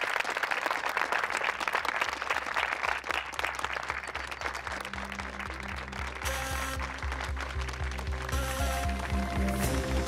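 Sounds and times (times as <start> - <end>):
people clapping in applause: 0.0 - 10.0.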